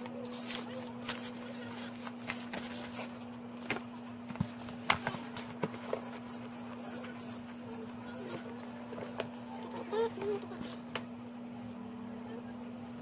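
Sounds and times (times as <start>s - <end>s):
paper and tissue rustling: 0.0s - 13.0s
steady low hum: 0.0s - 13.0s.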